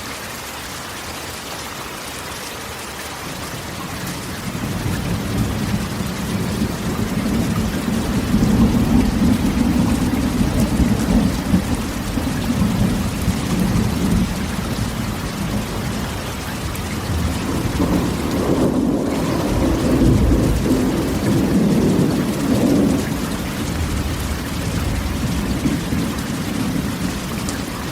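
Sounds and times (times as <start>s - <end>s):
rain on a tin roof: 0.0s - 27.9s
low rolling thunder: 4.4s - 27.9s.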